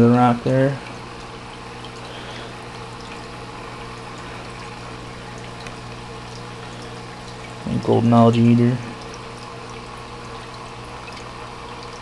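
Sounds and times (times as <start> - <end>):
pump motor hum: 0.0 - 12.0
water splashing and trickling: 0.0 - 12.0.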